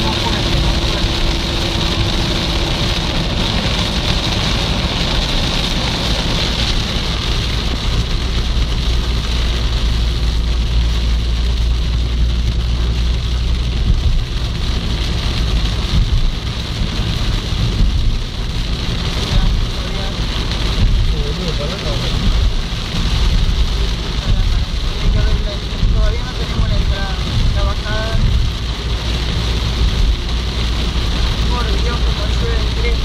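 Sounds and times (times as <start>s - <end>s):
car road and engine rumble: 0.0s - 33.0s
heavy rain on car: 0.0s - 33.0s.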